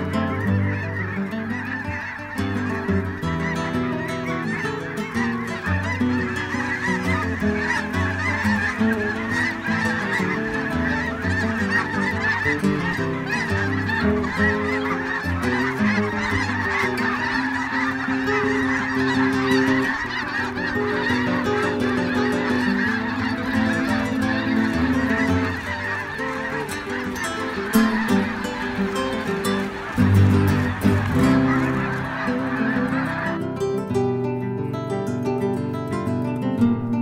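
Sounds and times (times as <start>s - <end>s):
geese honking: 0.0s - 34.6s.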